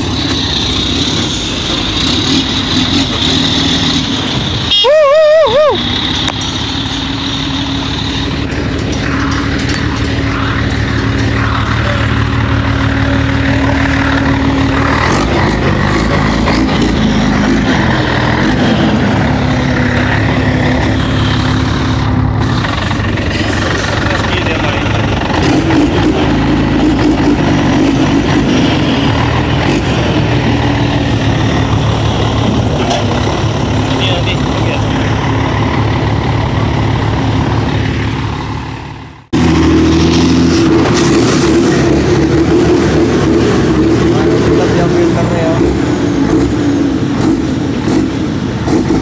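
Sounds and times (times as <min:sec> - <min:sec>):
truck diesel engine running: 0:00.0 - 0:49.0.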